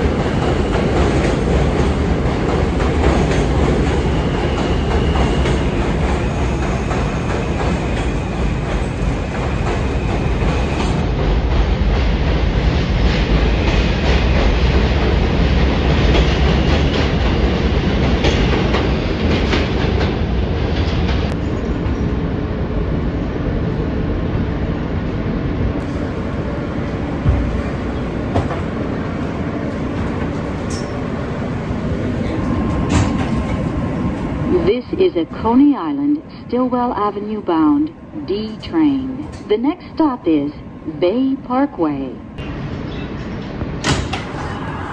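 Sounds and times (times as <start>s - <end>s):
train rumbling with wheel clatter: 0.0s - 39.9s.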